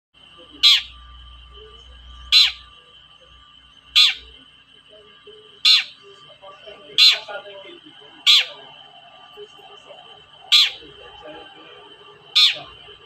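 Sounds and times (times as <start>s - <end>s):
steady high background tone: 0.2s - 13.0s.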